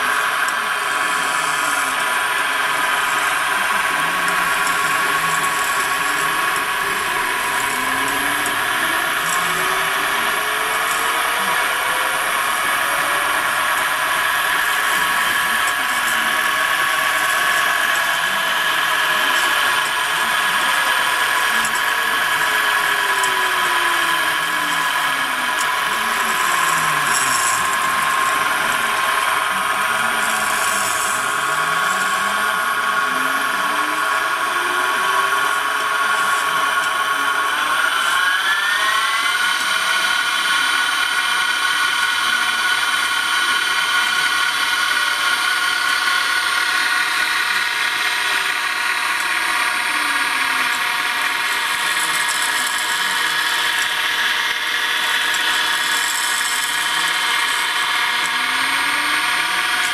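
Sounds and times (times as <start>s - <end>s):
milling machine motor whining: 0.0s - 59.9s.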